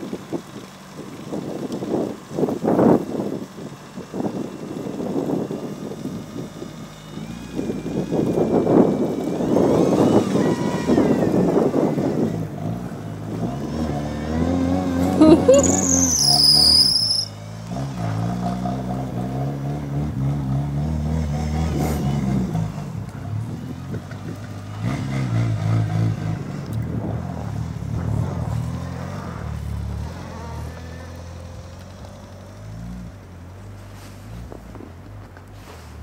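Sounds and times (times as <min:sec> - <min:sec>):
high turbo whine: 0:00.0 - 0:33.6
car engine revving: 0:06.1 - 0:35.8.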